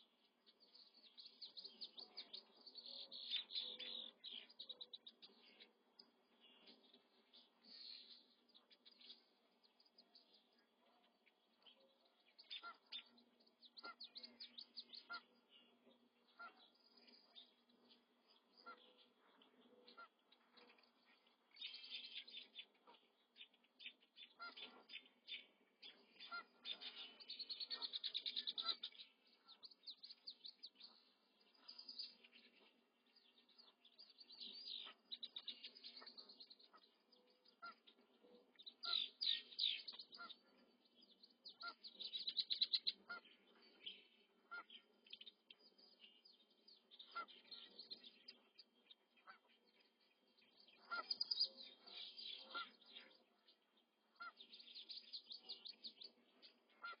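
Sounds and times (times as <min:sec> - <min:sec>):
bird chirps and trills: 0:00.0 - 0:57.0.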